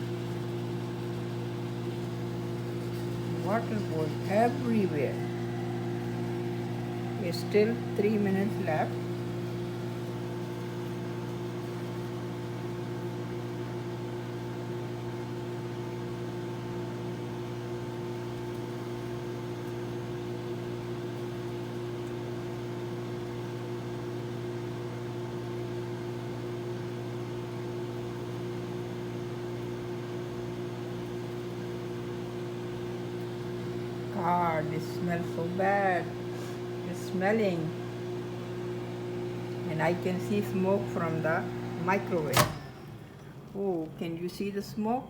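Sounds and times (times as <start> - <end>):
microwave oven humming: 0.0 - 45.0.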